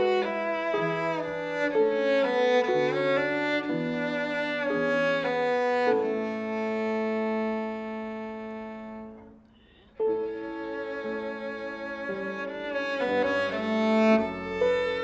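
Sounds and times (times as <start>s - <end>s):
bowed cello: 0.0s - 15.0s.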